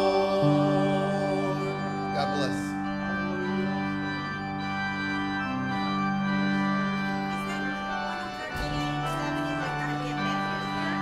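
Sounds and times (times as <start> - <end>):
church organ chords: 0.0 - 11.0.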